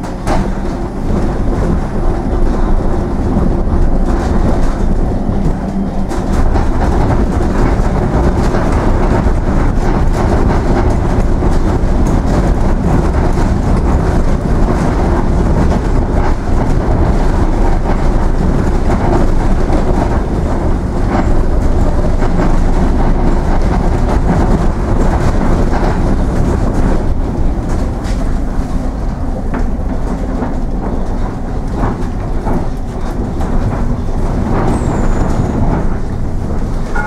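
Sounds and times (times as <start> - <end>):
bus body rattling: 0.0 - 37.0
bus rumbling over cobblestones: 0.0 - 37.0.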